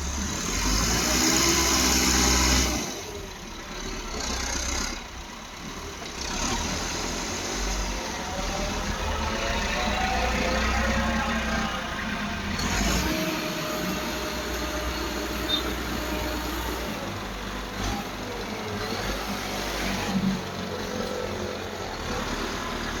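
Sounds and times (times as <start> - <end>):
road noise: 0.0 - 23.0
tractor diesel engine rumbling: 0.0 - 23.0.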